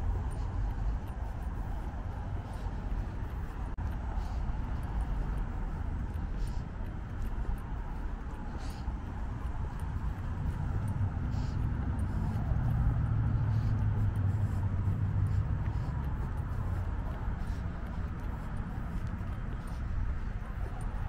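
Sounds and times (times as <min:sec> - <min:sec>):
street ambience: 0:00.0 - 0:21.0
vehicle passing rumble: 0:00.0 - 0:21.0.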